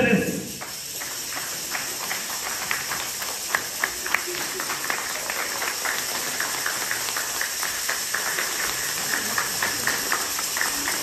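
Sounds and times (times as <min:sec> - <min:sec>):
close hands clapping: 0:00.3 - 0:11.0
audience applauding: 0:00.5 - 0:11.0.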